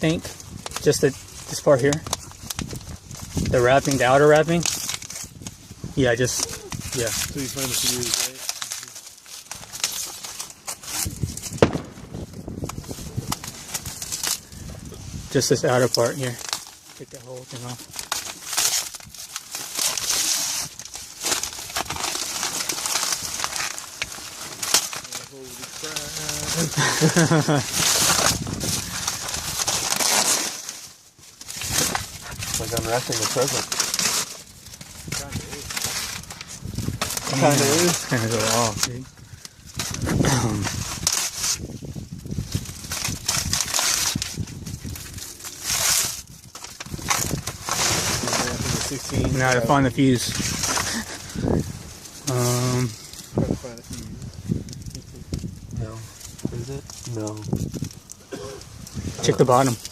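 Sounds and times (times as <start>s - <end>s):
wrapping torn and crumpled: 0.0s - 59.9s.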